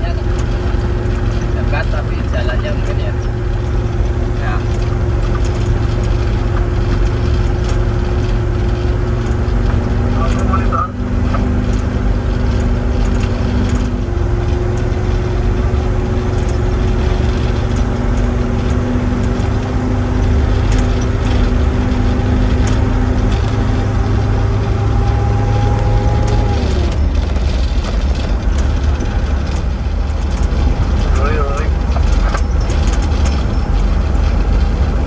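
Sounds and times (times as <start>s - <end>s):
road rumble: 0.0s - 35.0s
vehicle engine running: 0.0s - 35.0s.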